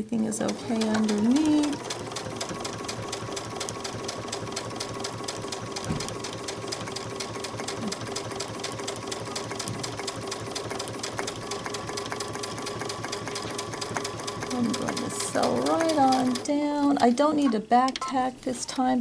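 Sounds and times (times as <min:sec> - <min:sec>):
sewing machine stitching: 0:00.2 - 0:17.2.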